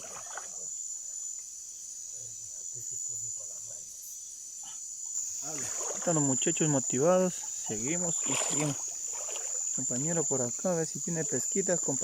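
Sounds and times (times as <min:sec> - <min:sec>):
night insects chorus: 0:00.0 - 0:12.0.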